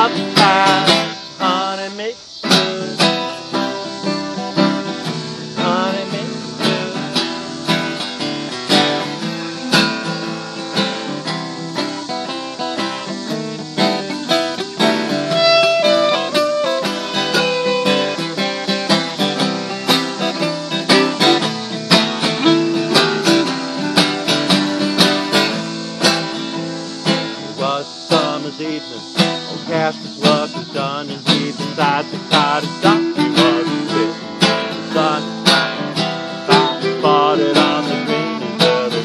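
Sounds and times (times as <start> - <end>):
acoustic guitars strumming: 0.0 - 39.0
clarinet melody: 2.4 - 27.8, 31.8 - 39.0.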